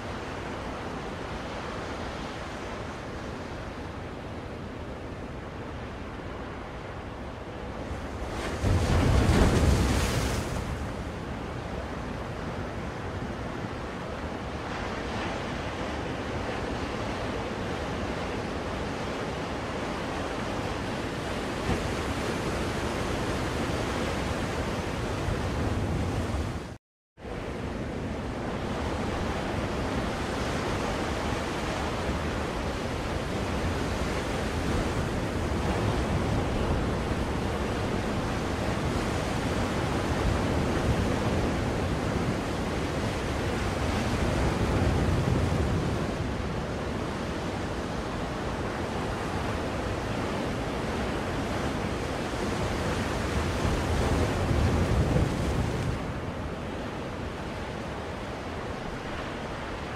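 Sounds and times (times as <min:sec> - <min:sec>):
ocean waves breaking: 0:00.1 - 0:59.9.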